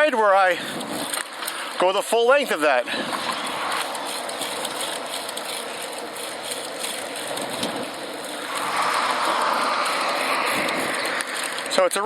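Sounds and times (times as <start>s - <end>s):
bicycle drivetrain whir: 0.0s - 12.0s
bicycle rolling and wind noise: 0.0s - 12.0s.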